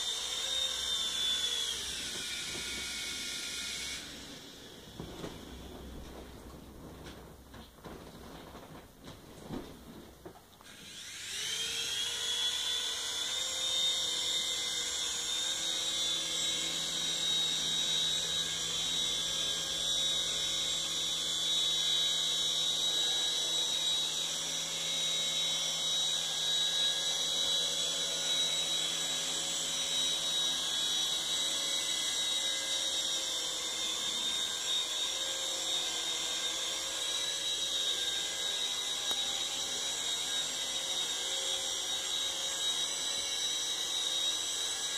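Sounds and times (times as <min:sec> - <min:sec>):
toy helicopter motor whine: 0:00.0 - 0:05.9, 0:10.6 - 0:44.9.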